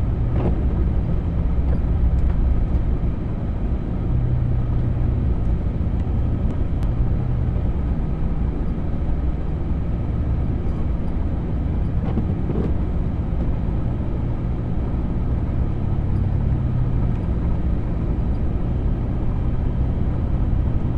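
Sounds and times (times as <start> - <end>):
road noise: 0.0 - 20.9
vehicle engine drone: 0.0 - 20.9.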